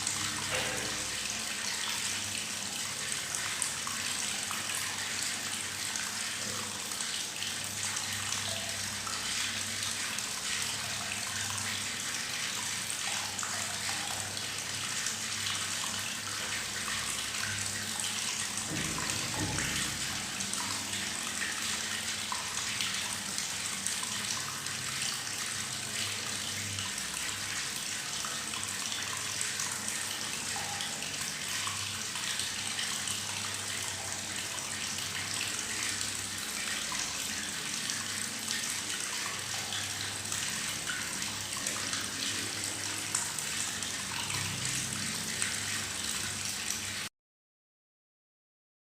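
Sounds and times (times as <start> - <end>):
tap water running into bathtub: 0.0 - 47.1.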